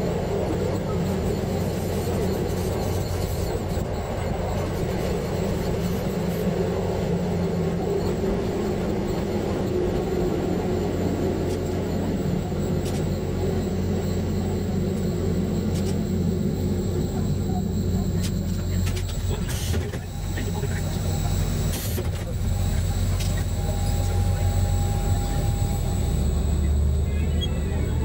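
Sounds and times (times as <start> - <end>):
railcar engine drone: 0.0 - 28.0.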